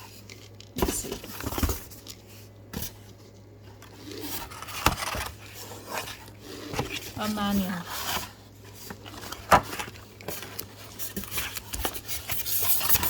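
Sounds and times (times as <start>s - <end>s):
packaging scraping and rustling: 0.0s - 13.0s.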